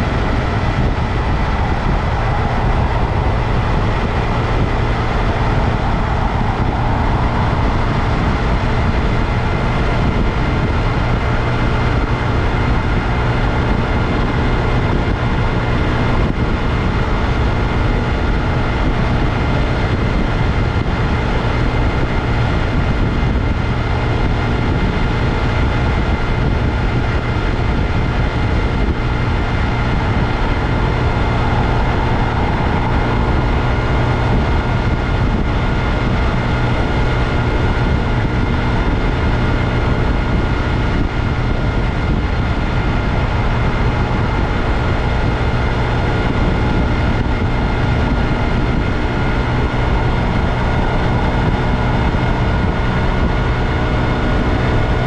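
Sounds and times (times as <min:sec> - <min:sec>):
heavy low rumble: 0:00.0 - 0:55.0
motorcycle engine running: 0:00.0 - 0:55.0.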